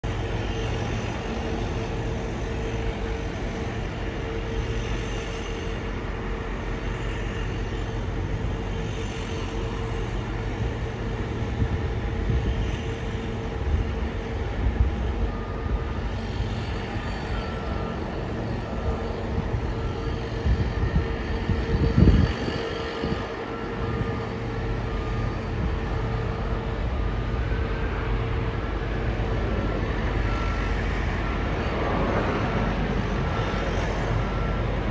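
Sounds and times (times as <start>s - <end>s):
distant jet engines rumbling: 0.0s - 34.9s.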